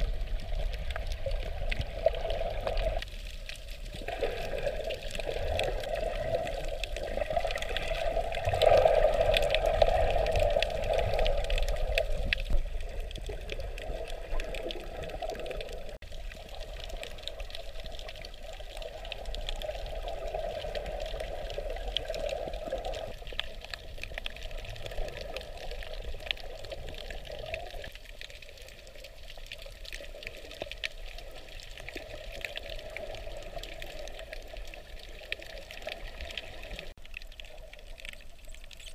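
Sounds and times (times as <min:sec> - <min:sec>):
muffled underwater water sloshing: 0:00.0 - 0:38.9.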